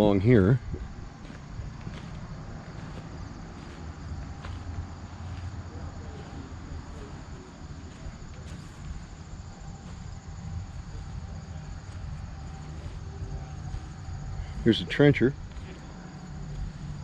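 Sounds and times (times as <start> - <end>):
cricket trill: 0.0 - 17.0
low rumble: 0.6 - 17.0.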